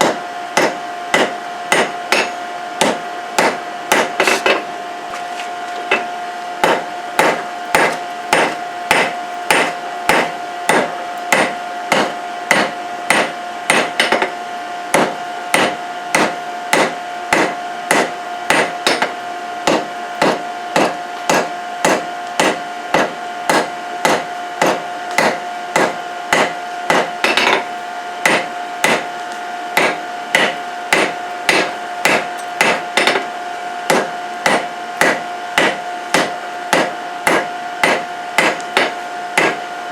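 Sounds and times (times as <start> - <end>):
hammer striking hot steel on anvil: 0.0 - 4.7, 5.9 - 39.7.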